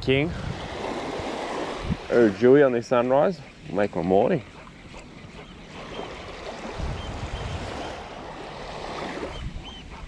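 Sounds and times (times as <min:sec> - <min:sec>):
wind rumbling on microphone: 0:00.0 - 0:02.5, 0:04.4 - 0:10.0
small waves lapping on beach: 0:00.4 - 0:10.0.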